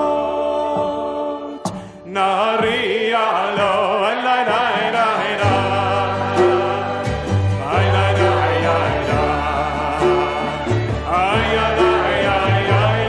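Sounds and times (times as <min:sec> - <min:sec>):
congregation singing: 0:00.0 - 0:13.0.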